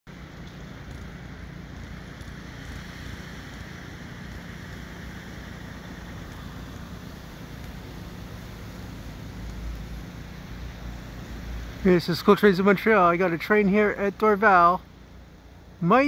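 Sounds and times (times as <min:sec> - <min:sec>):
distant diesel locomotives rumbling: 0:00.1 - 0:16.0.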